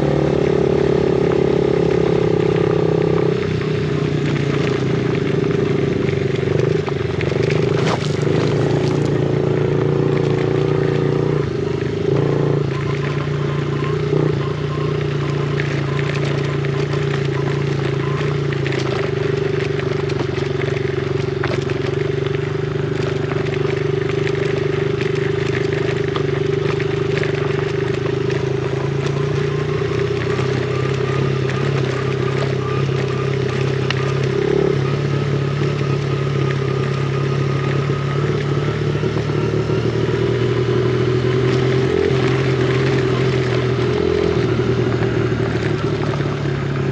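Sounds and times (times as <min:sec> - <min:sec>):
small motorbike engine running: 0:00.0 - 0:46.9.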